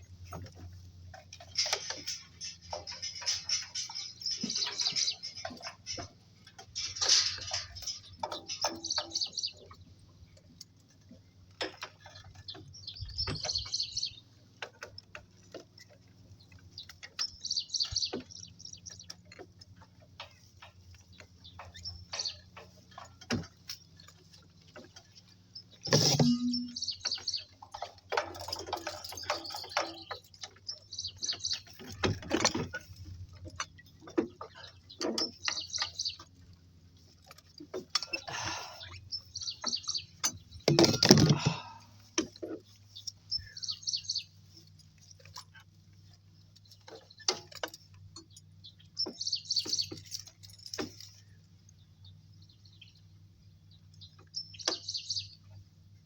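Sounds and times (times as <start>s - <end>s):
birds chirping: 0.0s - 56.0s
footsteps on farm track: 0.0s - 56.0s.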